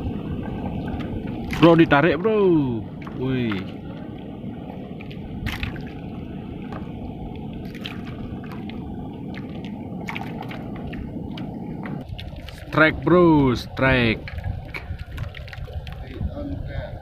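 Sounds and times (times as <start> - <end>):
water sloshing and gurgling: 0.0 - 17.0.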